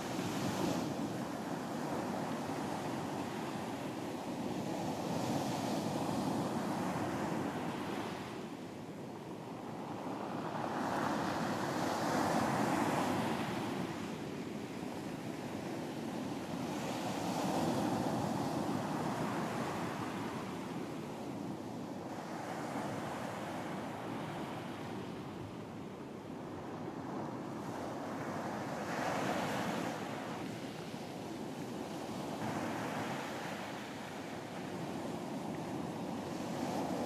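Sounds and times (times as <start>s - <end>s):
wind: 0.0s - 37.0s.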